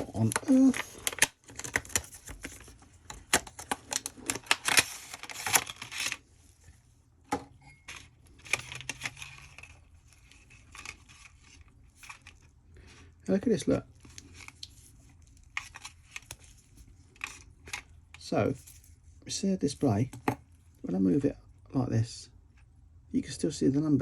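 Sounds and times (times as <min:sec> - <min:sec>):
watches rustling and clicking: 0:00.0 - 0:07.0, 0:07.8 - 0:20.9.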